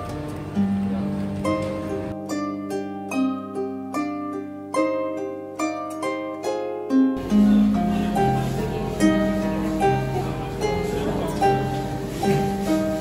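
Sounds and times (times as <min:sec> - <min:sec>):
harp plucked notes: 0:00.0 - 0:13.0
low steady background noise: 0:00.0 - 0:13.0.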